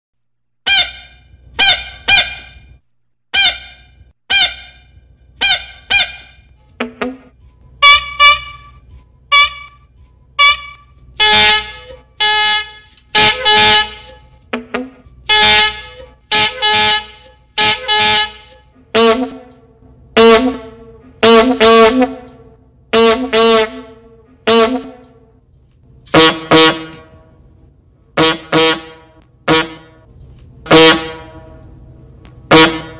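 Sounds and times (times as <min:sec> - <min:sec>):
toy horns tooting: 0:00.6 - 0:25.3, 0:26.1 - 0:27.3, 0:28.2 - 0:30.1, 0:30.7 - 0:31.7, 0:32.4 - 0:32.9.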